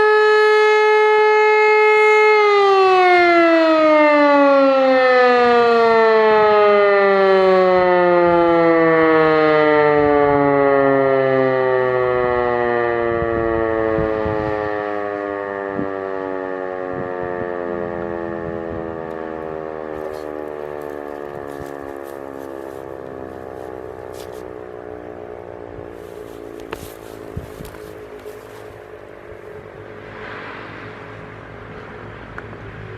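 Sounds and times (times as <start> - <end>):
siren winding down: 0.0 - 30.1.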